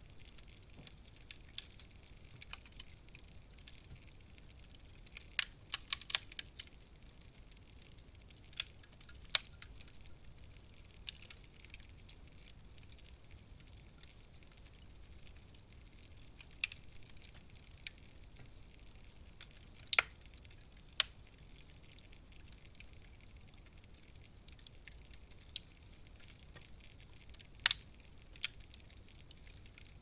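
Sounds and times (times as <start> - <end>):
faint low hiss: 0.0 - 30.0
wood fire crackling: 0.0 - 30.0.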